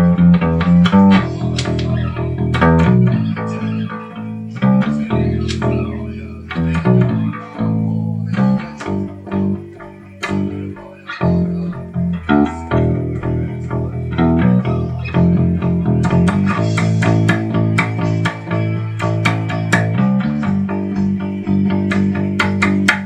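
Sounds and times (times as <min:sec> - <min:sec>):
electric bass guitar plucked: 0:00.0 - 0:23.0.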